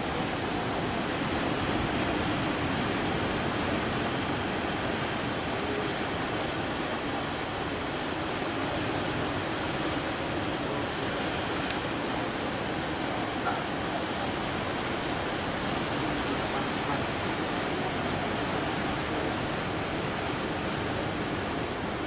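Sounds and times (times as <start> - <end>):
surf rushing: 0.0 - 22.0
wind: 0.0 - 22.0.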